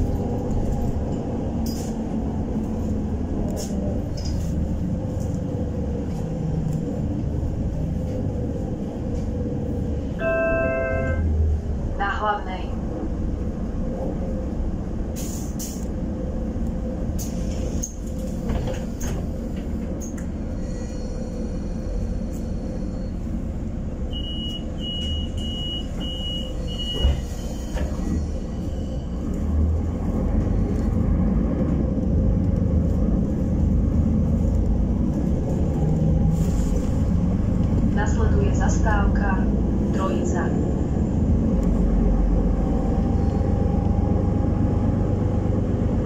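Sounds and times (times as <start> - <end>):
bus engine rumbling: 0.0 - 46.0.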